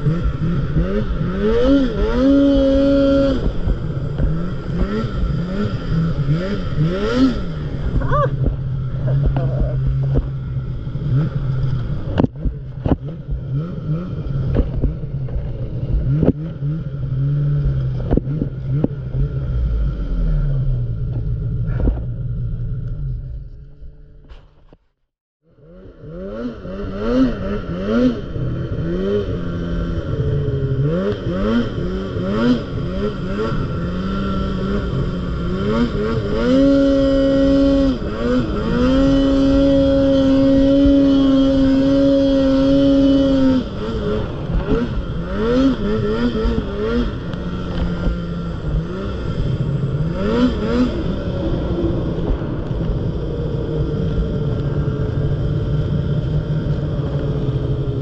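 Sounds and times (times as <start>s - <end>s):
snowmobile engine revving: 0.0s - 24.2s, 25.6s - 58.0s.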